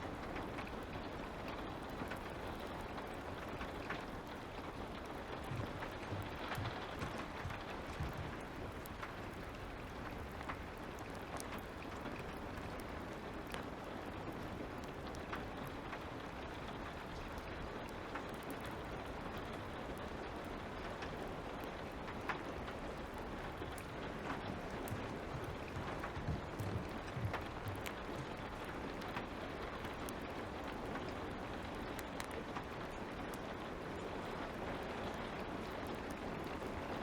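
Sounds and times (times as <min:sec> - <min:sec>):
light rain: 0:00.0 - 0:37.0
fire crackling: 0:00.1 - 0:37.0.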